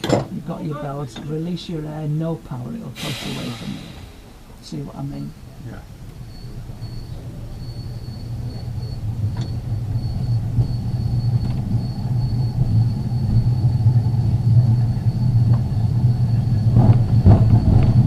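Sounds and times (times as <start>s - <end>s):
tram wheels rumbling on track: 0.0s - 18.0s.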